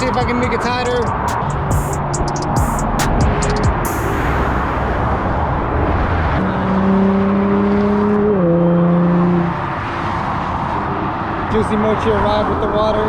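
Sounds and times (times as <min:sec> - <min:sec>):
passing vehicle hum: 0:00.0 - 0:11.6
freeway traffic rushing past: 0:00.0 - 0:13.0.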